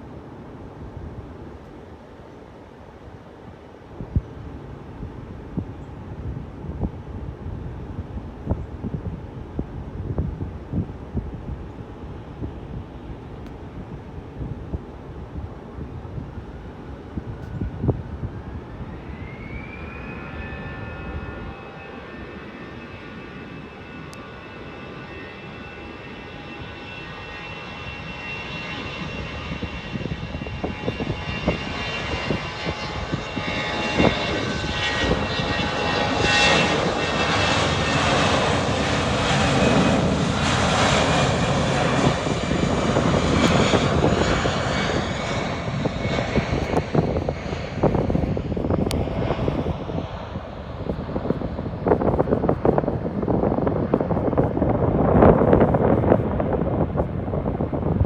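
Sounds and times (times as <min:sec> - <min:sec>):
airplane engines taking off: 0:00.0 - 0:58.0.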